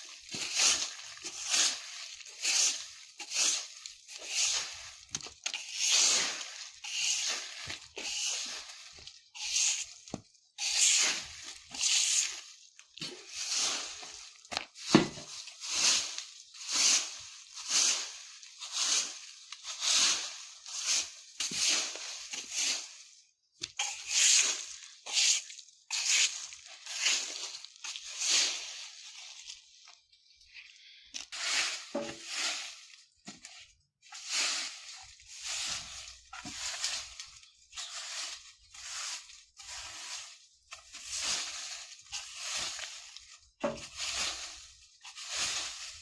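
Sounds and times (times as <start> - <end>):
broom sweeping leaves: 0.0 - 30.0, 31.2 - 46.0.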